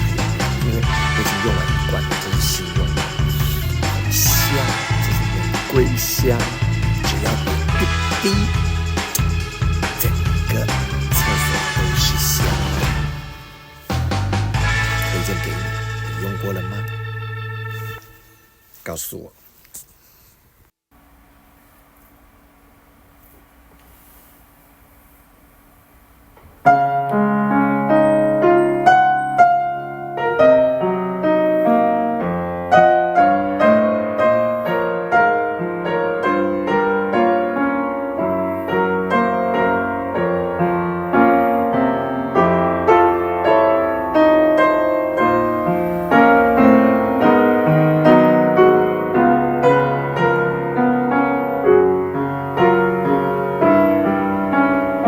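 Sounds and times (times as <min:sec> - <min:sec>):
piano song: 0:00.0 - 0:18.1, 0:26.6 - 0:55.0.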